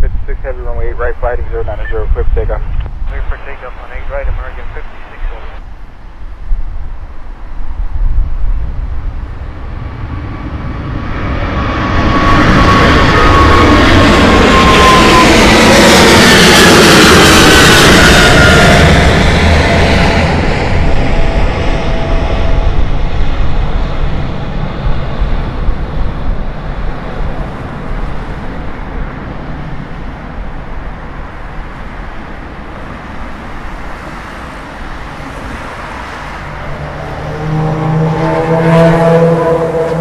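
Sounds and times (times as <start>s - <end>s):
jet engines humming: 0.0s - 40.0s
jet plane passing overhead: 0.0s - 40.0s.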